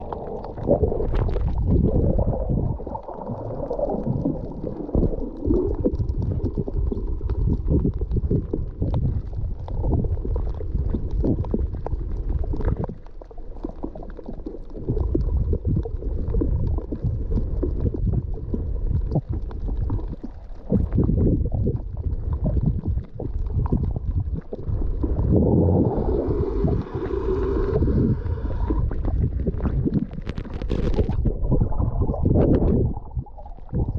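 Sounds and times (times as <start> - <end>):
underwater sloshing and gurgling: 0.0 - 33.9.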